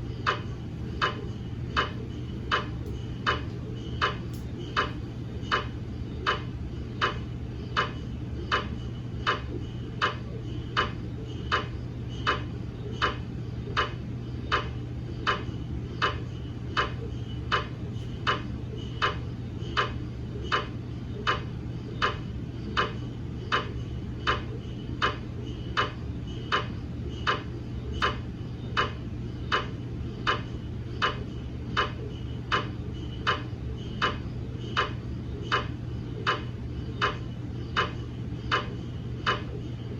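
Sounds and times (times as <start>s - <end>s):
constant low hum: 0.0s - 39.9s
mri scanner ticking: 0.0s - 39.9s.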